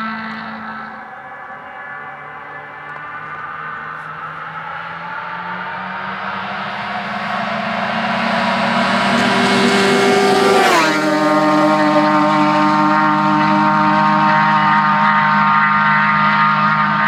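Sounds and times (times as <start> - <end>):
snowmobile engine at full throttle: 0.0 - 17.0.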